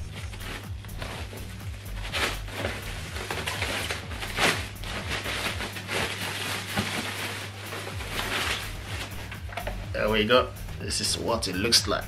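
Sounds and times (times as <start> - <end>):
plastic bag rustling and crinkling: 0.0 - 10.1.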